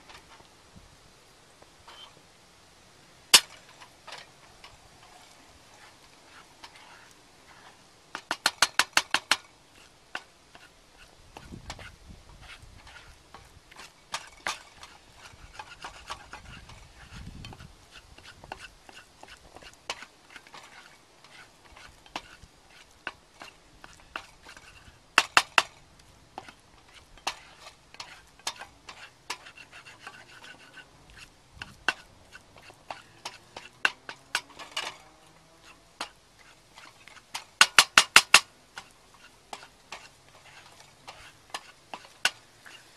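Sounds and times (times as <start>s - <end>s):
utensil scraping a pan: 1.8s - 2.2s, 3.3s - 42.9s.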